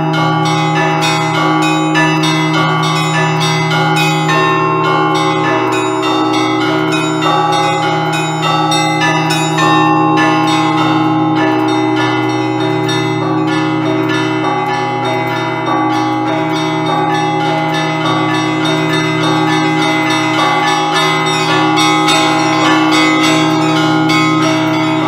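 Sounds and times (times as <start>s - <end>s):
low bell ringing: 0.0s - 25.0s
small church bells striking: 0.0s - 25.0s.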